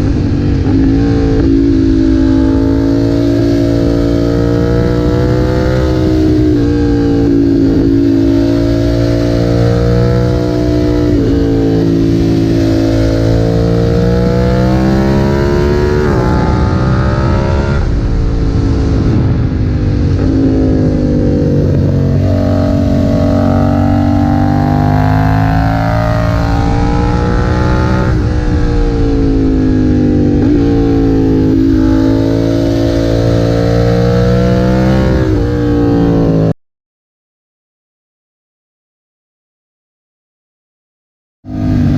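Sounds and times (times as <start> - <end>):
motorcycle engine revving: 0.0 - 36.6, 41.5 - 41.9.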